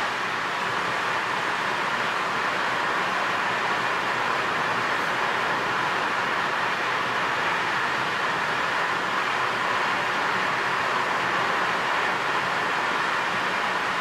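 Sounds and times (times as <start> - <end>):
car road noise in cabin: 0.0 - 14.0.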